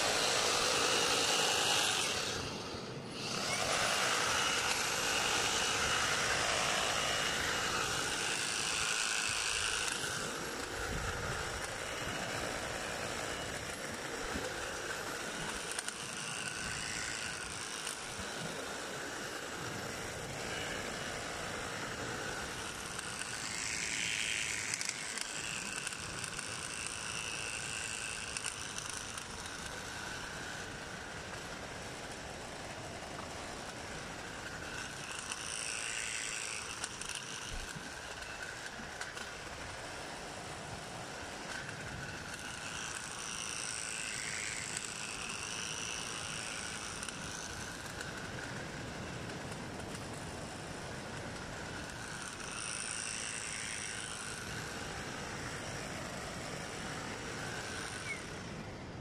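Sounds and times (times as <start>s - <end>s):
hedge trimmer cutting hedge: 0.0s - 59.0s.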